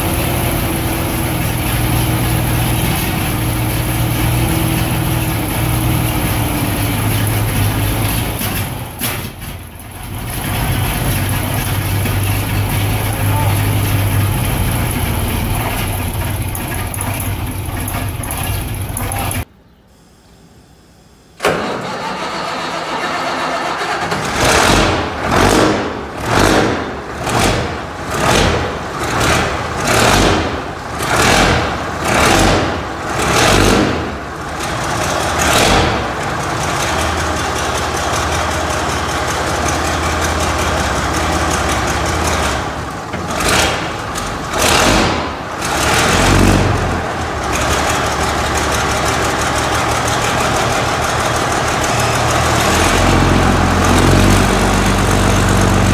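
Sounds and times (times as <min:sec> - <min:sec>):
diesel truck engine revving: 0:00.0 - 0:19.5, 0:21.5 - 0:55.9.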